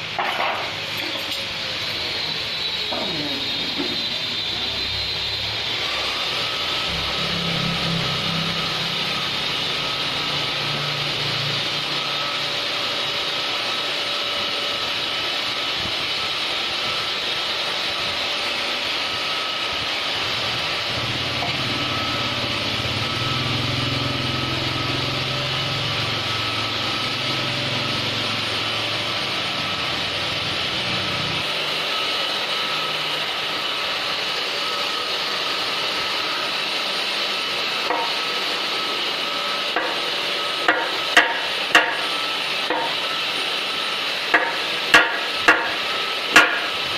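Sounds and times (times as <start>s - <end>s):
power tool whirring on wood: 0.0s - 46.9s.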